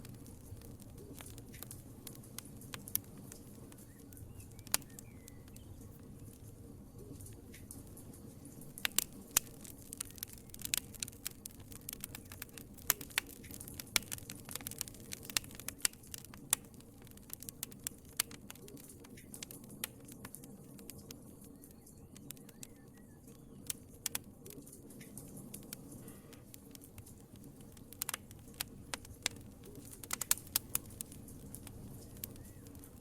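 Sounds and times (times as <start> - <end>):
fire pops and snaps: 0.0 - 33.0
low rumble of flames: 0.0 - 33.0
wood fire crackling: 0.0 - 33.0.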